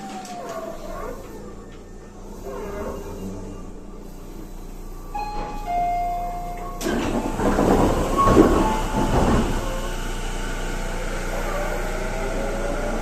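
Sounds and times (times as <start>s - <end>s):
train inverter whine: 0.0s - 13.0s.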